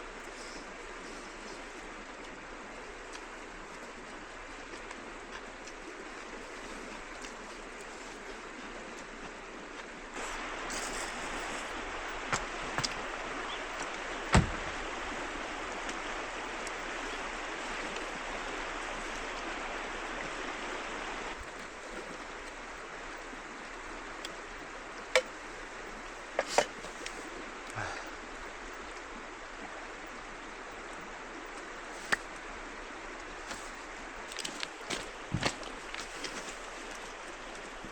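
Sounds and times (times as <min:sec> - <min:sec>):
river water running: 0:00.0 - 0:37.9.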